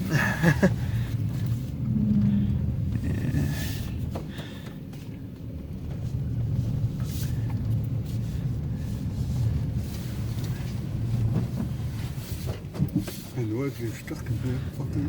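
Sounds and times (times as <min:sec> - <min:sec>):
truck engine running: 0:00.0 - 0:12.3.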